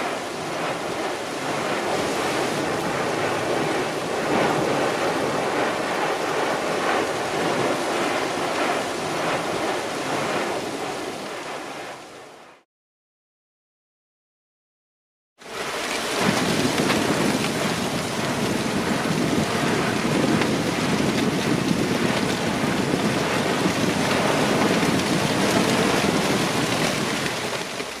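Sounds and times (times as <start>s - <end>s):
volcano rushing with crackling: 0.0s - 12.4s, 15.4s - 28.0s.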